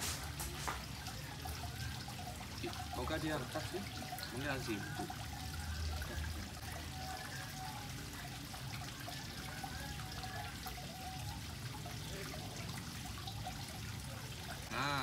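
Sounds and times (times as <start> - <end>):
water trickling into a pond: 0.0 - 15.0.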